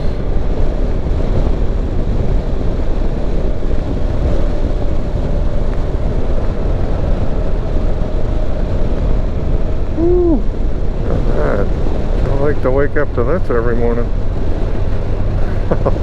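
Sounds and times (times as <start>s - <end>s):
motorcycle engine and wind rush: 0.0s - 16.0s.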